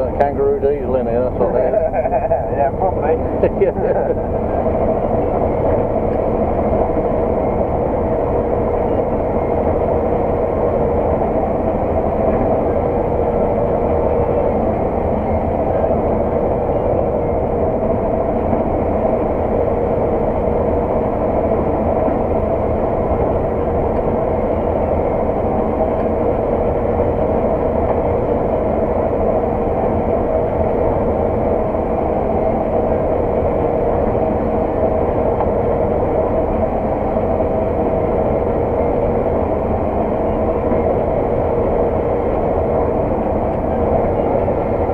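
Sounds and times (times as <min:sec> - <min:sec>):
combine harvester drone: 0:00.0 - 0:44.9.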